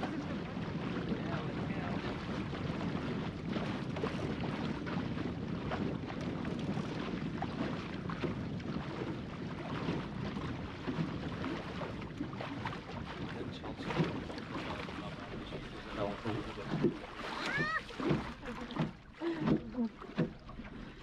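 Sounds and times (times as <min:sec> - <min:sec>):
wind buffeting microphone: 0:00.0 - 0:19.8
small splashes: 0:00.0 - 0:21.0
water rushing along boat hull: 0:00.0 - 0:21.0.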